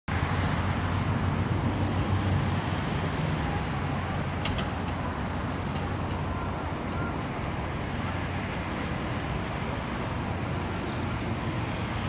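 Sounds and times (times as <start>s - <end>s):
traffic rumble: 0.1s - 12.0s.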